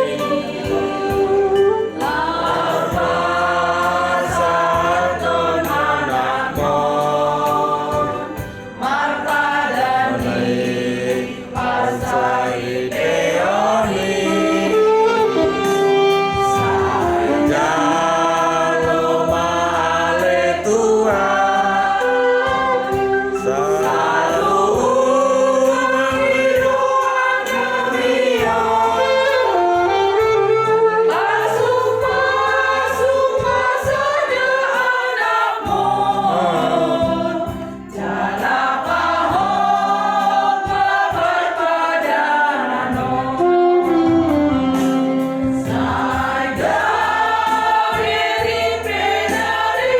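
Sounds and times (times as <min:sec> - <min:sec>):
choir singing in parts: 0:00.0 - 0:49.9.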